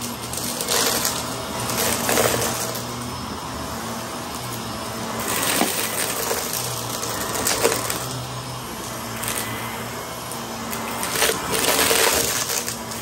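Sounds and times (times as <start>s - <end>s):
debris crunching in vacuum: 0.0s - 13.0s
vacuum cleaner running: 0.0s - 13.0s.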